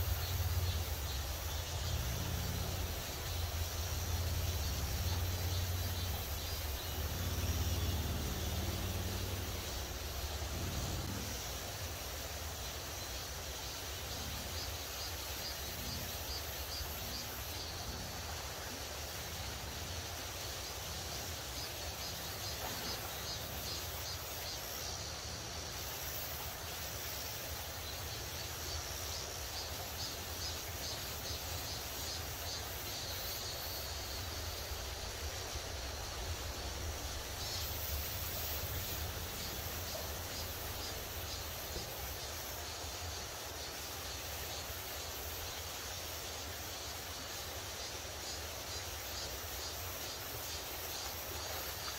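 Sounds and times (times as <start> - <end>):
stream rushing over rocks: 0.0 - 51.9.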